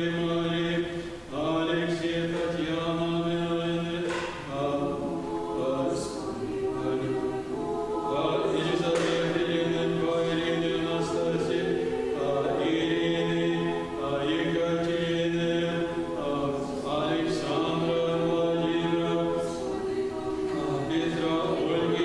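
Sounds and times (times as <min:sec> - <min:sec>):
choir chanting a cappella: 0:00.0 - 0:22.0.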